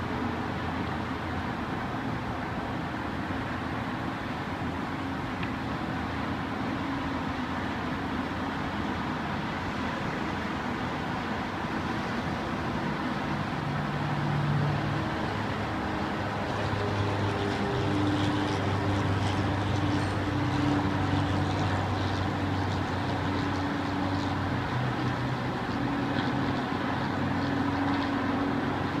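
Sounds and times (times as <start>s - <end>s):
city rumble: 0.0s - 29.0s
low engine drone: 0.0s - 29.0s.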